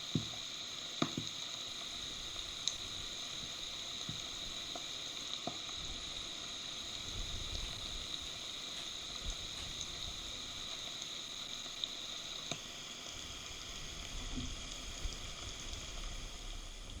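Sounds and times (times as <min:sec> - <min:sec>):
heavy rain hissing: 0:01.6 - 0:17.0.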